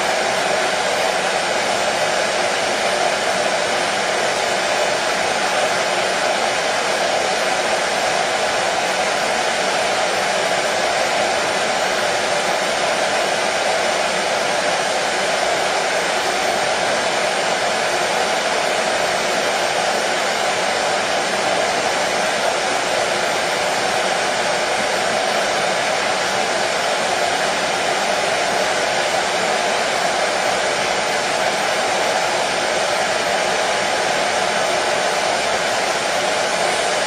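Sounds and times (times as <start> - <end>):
hair dryer running: 0.0 - 37.0.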